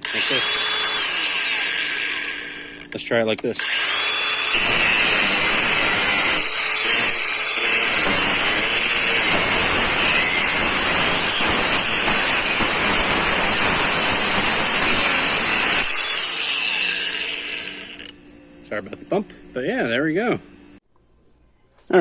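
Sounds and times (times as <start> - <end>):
angle grinder cutting: 0.0 - 18.2.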